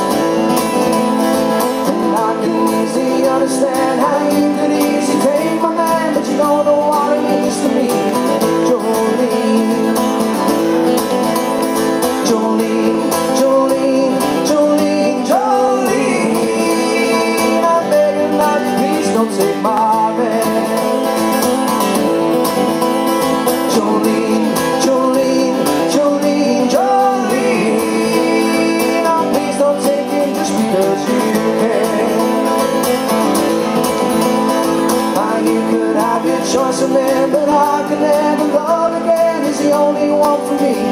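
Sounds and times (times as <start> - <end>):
acoustic guitars strummed: 0.0 - 40.9
man singing: 1.7 - 10.6, 11.8 - 21.4, 23.4 - 33.2, 34.9 - 40.9.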